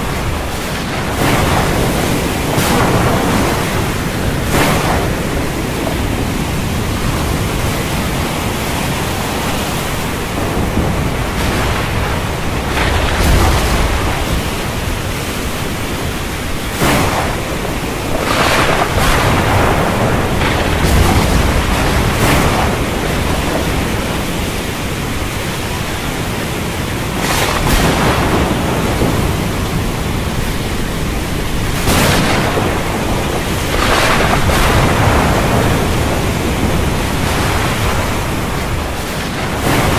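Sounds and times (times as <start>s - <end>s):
sharp thunder cracks: 0.0s - 9.1s, 9.8s - 25.6s, 26.8s - 39.9s
heavy rain: 0.0s - 39.9s
low thunder rumbles: 0.0s - 39.9s.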